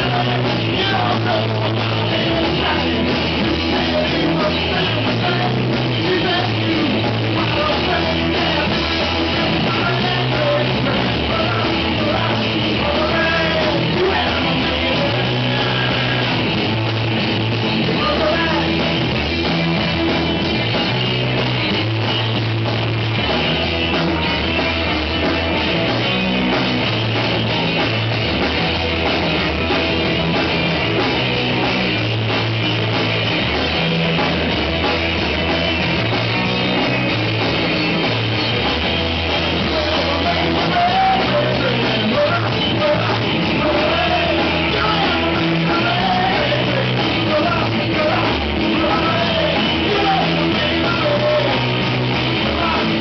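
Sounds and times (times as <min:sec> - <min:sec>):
bass guitar: 0:00.0 - 0:53.0
distorted electric guitars: 0:00.0 - 0:53.0
drum kit: 0:00.0 - 0:53.0.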